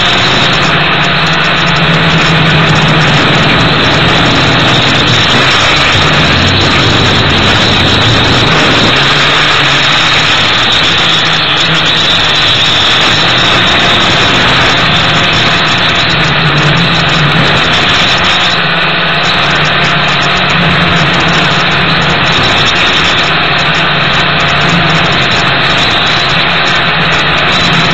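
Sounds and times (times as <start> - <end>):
drone motors buzzing: 0.0 - 27.9.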